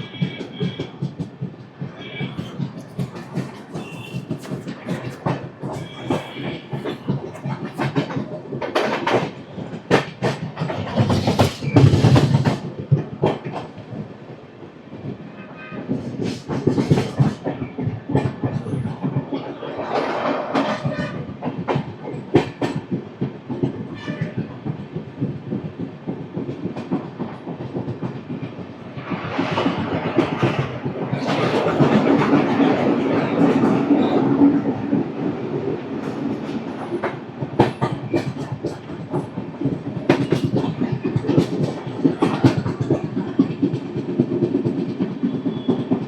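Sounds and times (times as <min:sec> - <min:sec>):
wheels clacking over rail joints: 0:00.0 - 0:14.0, 0:15.8 - 0:46.0
train rumbling at speed: 0:00.0 - 0:46.0.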